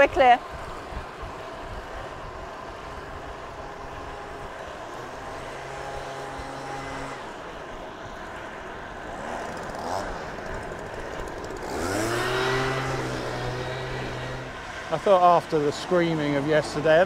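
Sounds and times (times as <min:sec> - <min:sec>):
vehicle engine humming: 0:00.0 - 0:17.0
wind and road rush: 0:00.0 - 0:17.0
engine speeding up: 0:01.0 - 0:17.0.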